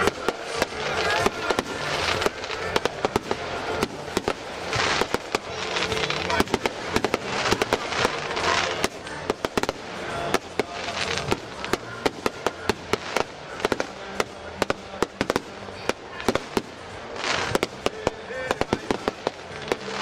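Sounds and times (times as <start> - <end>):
crackling fireworks: 0.0 - 20.0
fireworks popping and banging: 0.0 - 20.0
rushing hiss of fireworks: 0.0 - 20.0.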